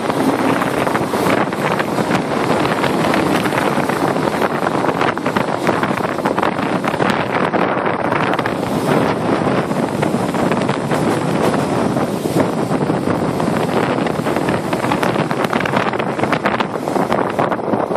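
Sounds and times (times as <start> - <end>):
moving train running noise: 0.0 - 17.9
wind buffeting microphone: 0.0 - 17.9.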